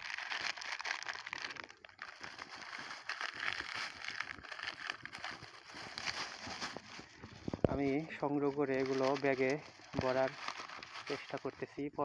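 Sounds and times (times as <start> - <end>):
plastic crinkling and rustling: 0.0 - 12.0.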